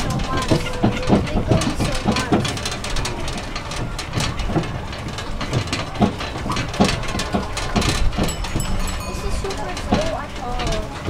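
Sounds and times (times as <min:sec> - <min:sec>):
low engine rumble: 0:00.0 - 0:11.0
trailer carriages rattling: 0:00.0 - 0:11.0.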